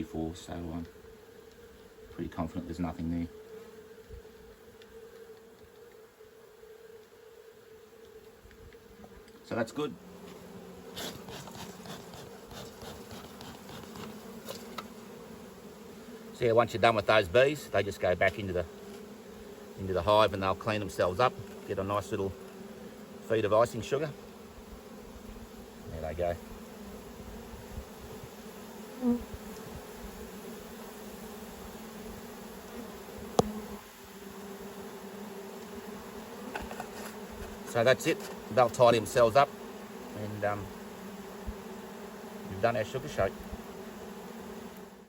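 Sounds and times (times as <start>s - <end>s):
bees buzzing: 0.0s - 45.0s.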